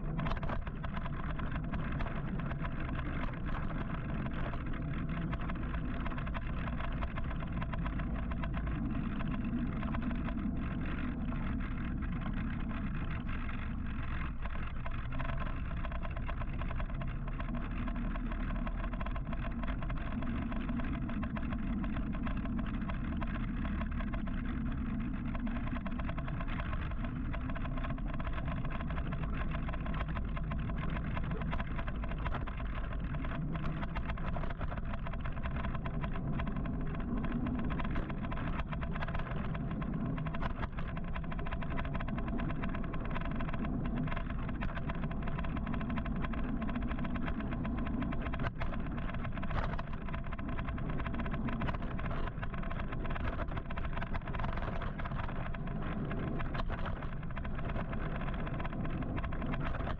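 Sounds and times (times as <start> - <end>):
low wind rumble: 0.0 - 59.9.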